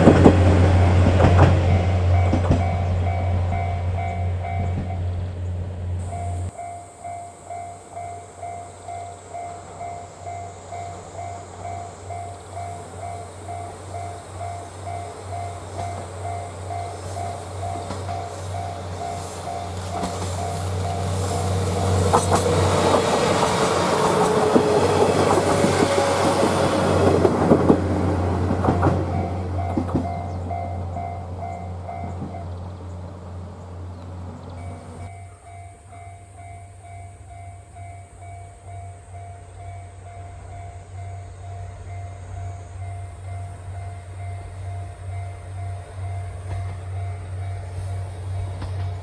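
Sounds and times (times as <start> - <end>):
crossing warning bell: 0.0 - 33.0, 34.4 - 49.0
diesel railcar rumble: 0.0 - 49.0.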